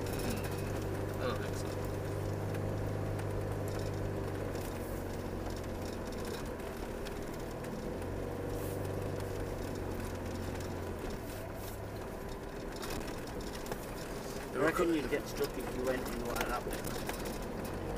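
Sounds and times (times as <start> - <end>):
car engine and road noise: 0.0 - 17.9.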